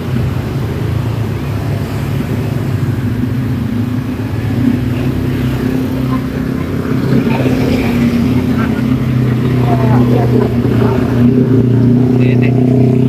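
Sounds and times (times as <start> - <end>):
low hum of vehicle engines: 0.0 - 13.0
higher engine note: 2.3 - 13.0.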